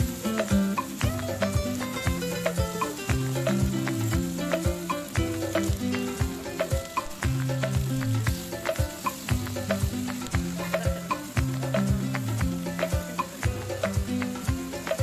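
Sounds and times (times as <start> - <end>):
background music with beat: 0.0 - 15.0
food sizzling in a frying pan: 0.0 - 15.0.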